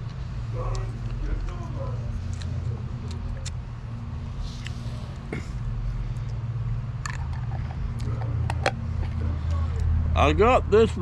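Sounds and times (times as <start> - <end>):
vehicle idling hum: 0.0 - 11.0.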